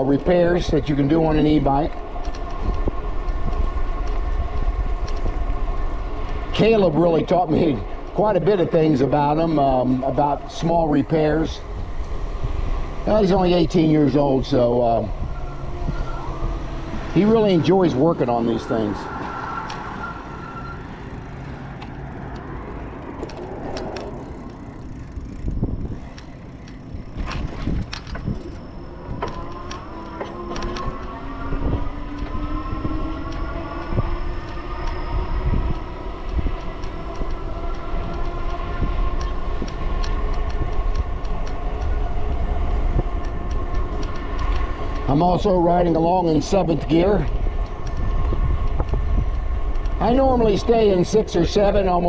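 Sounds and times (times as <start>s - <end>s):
wind rumble on microphone: 0.0s - 52.0s
electric bike motor whining: 0.2s - 52.0s.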